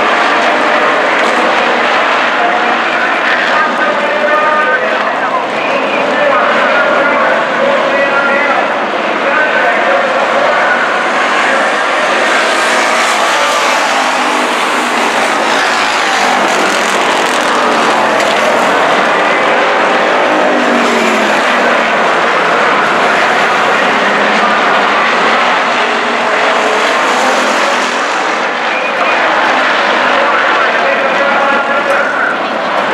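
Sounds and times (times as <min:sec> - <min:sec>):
stock car engines racing: 0:00.0 - 0:32.9.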